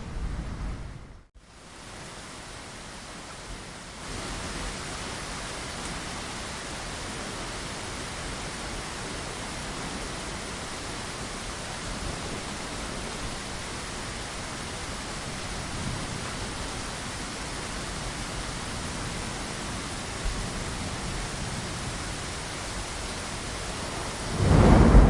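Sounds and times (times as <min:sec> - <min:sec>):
rain falling against a window: 0:01.3 - 0:25.0.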